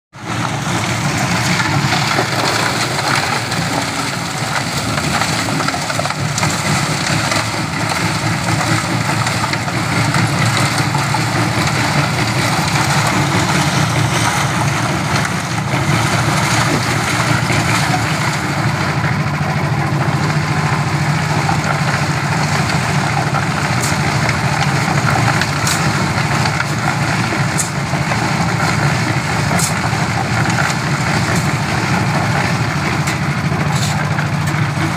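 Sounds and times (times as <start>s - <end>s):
concrete mixer engine running: 0.2s - 34.9s.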